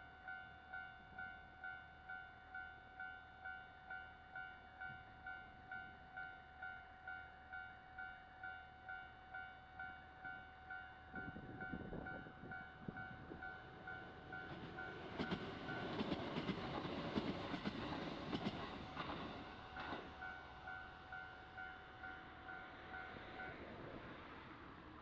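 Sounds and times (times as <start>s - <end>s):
level-crossing warning bell: 0.0s - 16.2s, 19.8s - 23.9s
electric train rumble: 0.0s - 25.0s.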